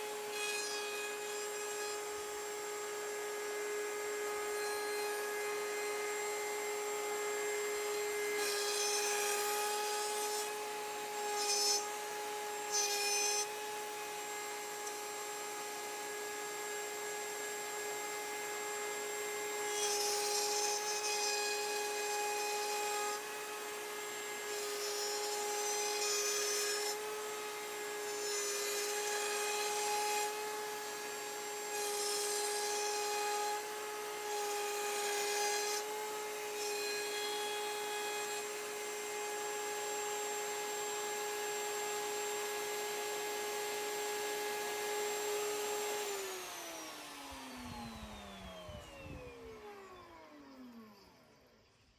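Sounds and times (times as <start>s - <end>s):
router bit rasping wood: 0.0s - 51.7s
router high whine: 0.0s - 51.9s.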